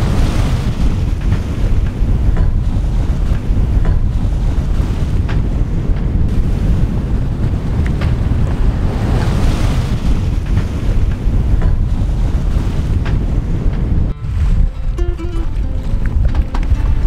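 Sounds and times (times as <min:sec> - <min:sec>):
sea water rushing: 0:00.0 - 0:17.0
wind buffeting microphone: 0:00.0 - 0:17.0.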